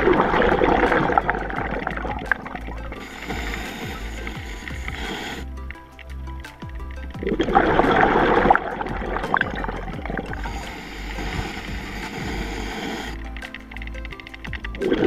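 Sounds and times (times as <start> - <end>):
underwater bubbling and gurgling: 0.0 - 15.0.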